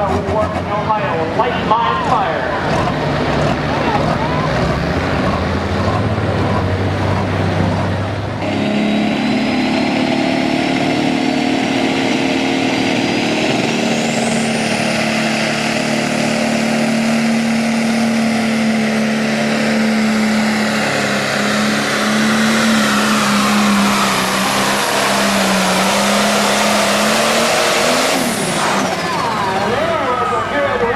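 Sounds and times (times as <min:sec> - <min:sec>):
diesel engine at full throttle: 0:00.0 - 0:30.9.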